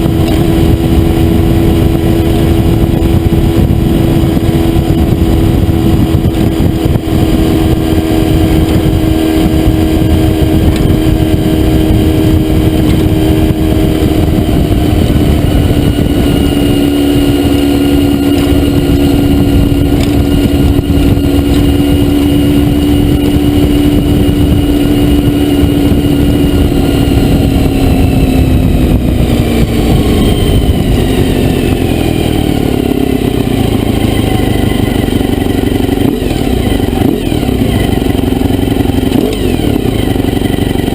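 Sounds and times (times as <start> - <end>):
motorcycle engine running hard: 0.0 - 40.9.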